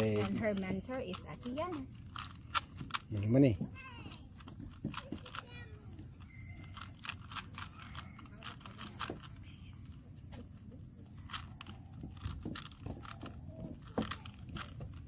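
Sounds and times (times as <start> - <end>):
puzzle cube plastic clicks: 0.0 - 3.4, 4.1 - 15.0.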